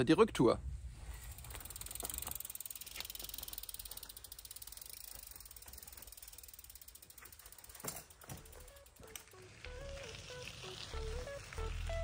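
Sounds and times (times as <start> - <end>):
bicycle freewheel ticking: 1.1 - 12.0.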